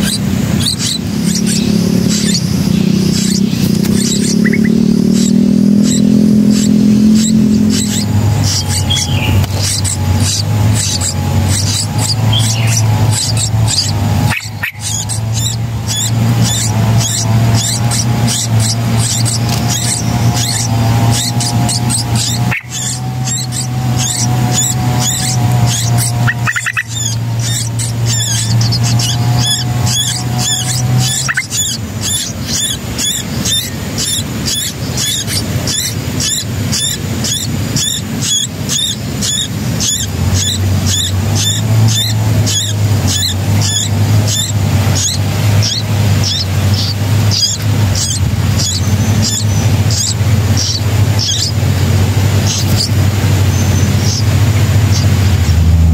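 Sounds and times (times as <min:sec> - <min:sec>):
low steady hum: 0:00.0 - 0:55.9
nestlings begging calls: 0:00.0 - 0:55.9.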